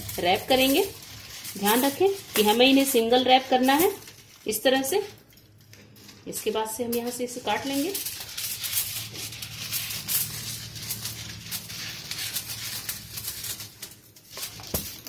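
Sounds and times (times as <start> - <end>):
aluminium foil crinkling: 0.0 - 15.0
scissors cutting foil: 0.0 - 15.0.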